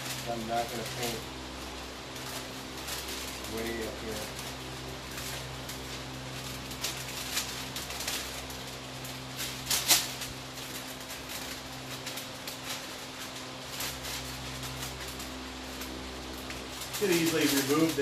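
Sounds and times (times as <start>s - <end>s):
masking paper crackling: 0.0s - 18.0s
steady low hum: 0.0s - 18.0s.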